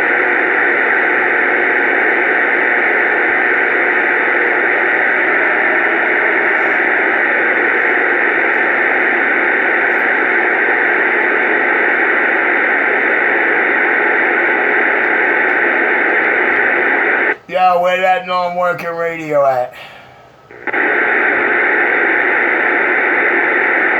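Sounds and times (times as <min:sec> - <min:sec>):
radio static hiss: 0:00.0 - 0:23.9.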